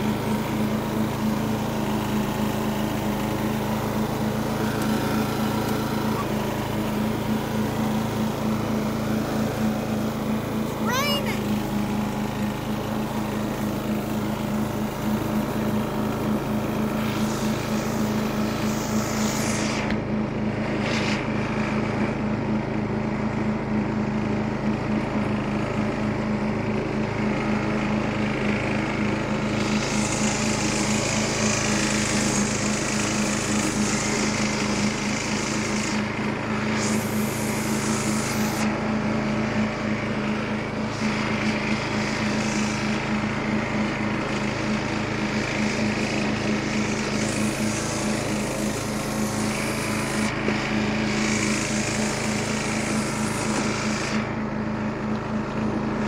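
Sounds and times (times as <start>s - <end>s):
riding lawn mower engine: 0.0s - 56.0s.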